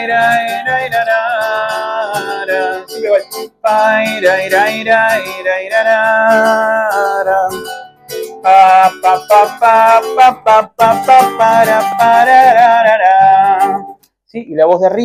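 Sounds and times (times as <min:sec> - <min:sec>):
man singing long held notes: 0:00.0 - 0:07.7, 0:08.4 - 0:13.9
strummed classical guitar: 0:00.0 - 0:14.1.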